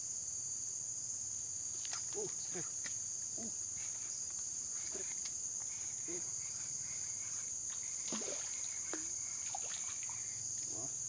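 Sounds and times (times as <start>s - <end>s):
insects shrilling: 1.8s - 10.9s.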